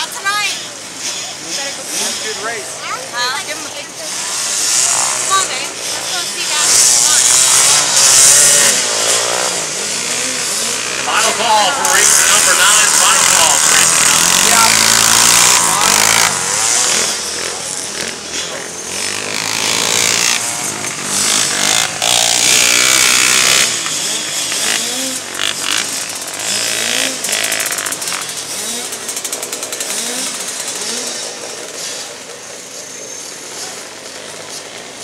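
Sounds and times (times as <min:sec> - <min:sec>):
racing engines revving: 0:00.0 - 0:35.0.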